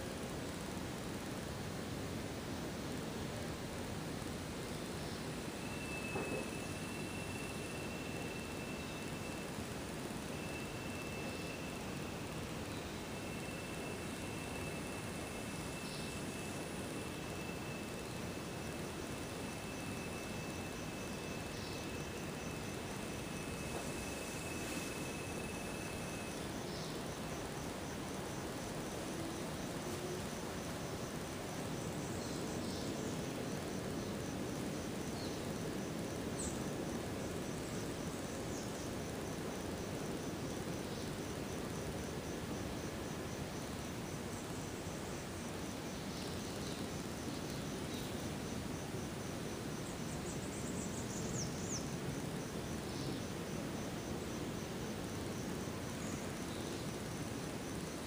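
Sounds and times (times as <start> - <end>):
insect chirping in steady pulse: 0.0 - 58.0.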